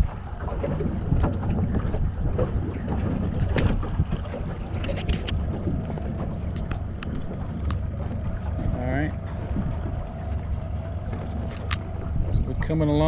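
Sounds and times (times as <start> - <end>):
boat engine rumble: 0.0 - 13.0
wind on microphone: 0.0 - 13.0.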